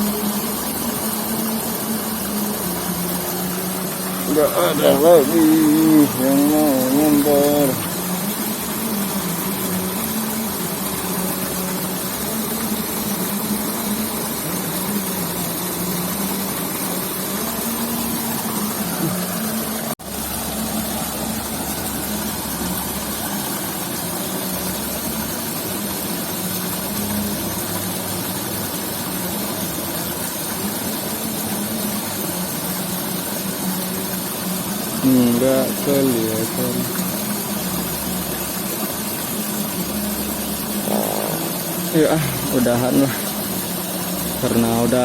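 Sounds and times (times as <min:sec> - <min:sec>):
small motor humming: 0:00.0 - 0:45.0.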